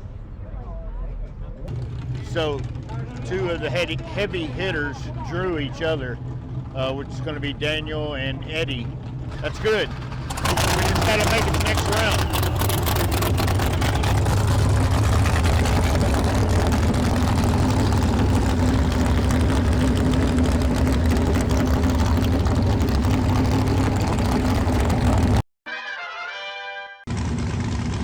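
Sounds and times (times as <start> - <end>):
truck engine idling: 1.7 - 25.4.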